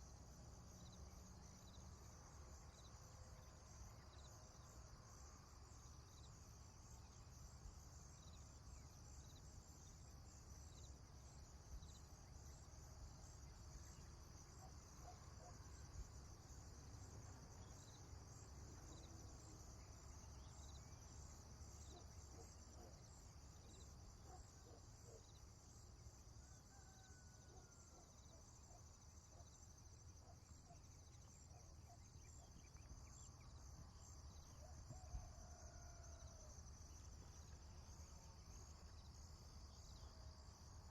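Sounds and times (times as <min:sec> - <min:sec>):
insects chirping chorus: 0:00.0 - 0:40.9.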